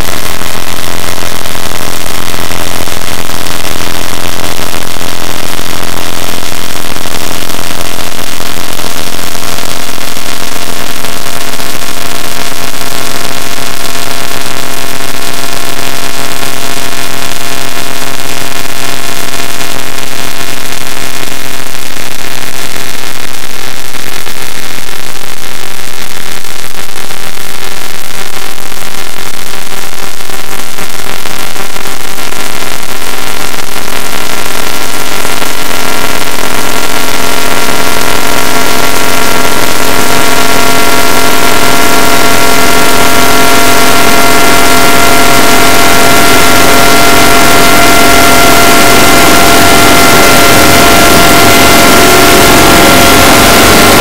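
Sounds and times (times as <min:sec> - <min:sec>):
distorted electronic drone: 0:00.0 - 0:54.0.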